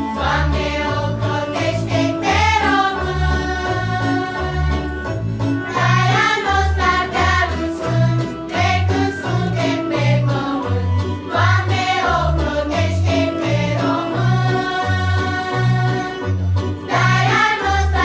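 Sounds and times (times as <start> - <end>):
children's choir singing: 0.0 - 4.9, 5.7 - 16.2, 16.9 - 18.0
instrumental accompaniment with bass: 0.0 - 18.0.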